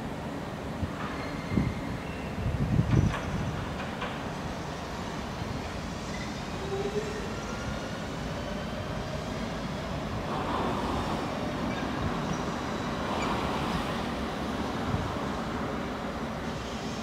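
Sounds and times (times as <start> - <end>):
train wheels rumbling: 0.9 - 17.0.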